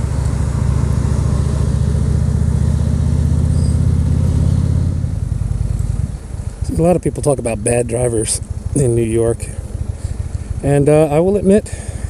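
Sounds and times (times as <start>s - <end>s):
motorcycle engine pulsing: 0.0s - 12.0s.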